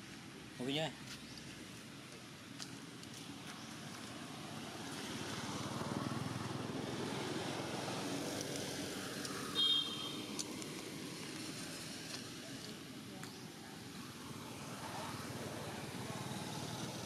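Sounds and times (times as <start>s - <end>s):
motor vehicle passing: 3.2s - 17.0s.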